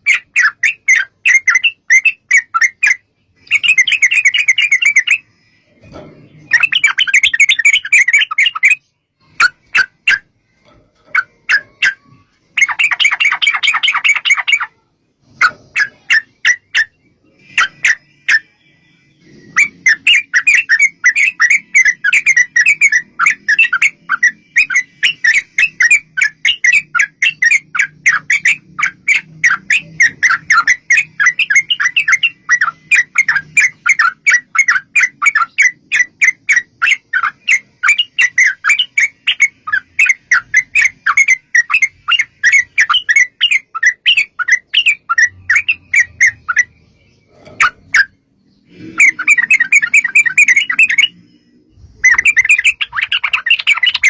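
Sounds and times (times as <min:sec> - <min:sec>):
bird chattering song: 0:00.0 - 0:54.0.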